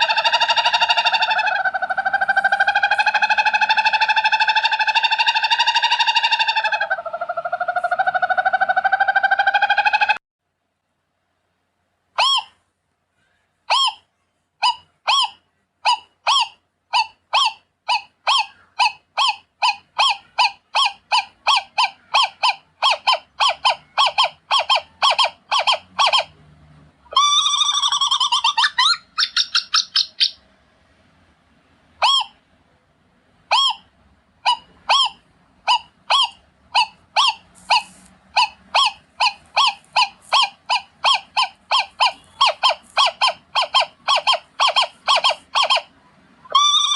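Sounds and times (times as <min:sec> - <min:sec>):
owl calling short sharp notes: 0:00.0 - 0:10.2, 0:12.2 - 0:26.3, 0:32.0 - 0:32.4, 0:33.5 - 0:46.9.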